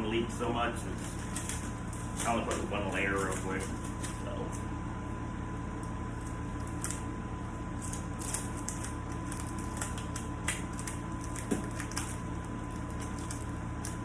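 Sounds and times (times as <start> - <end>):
tape crinkling: 0.9 - 4.6, 5.8 - 14.0.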